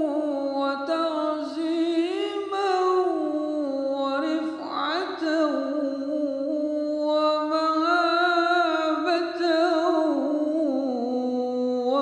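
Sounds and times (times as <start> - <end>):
man chanting devotional song: 0.0 - 12.0.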